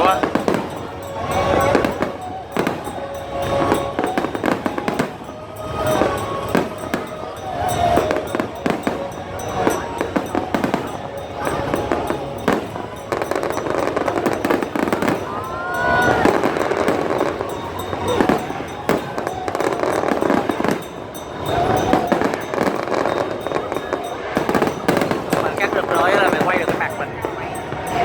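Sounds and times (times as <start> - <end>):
fireworks bursting with sharp bangs: 0.0 - 28.0
music: 0.0 - 28.0
voices: 0.0 - 28.0.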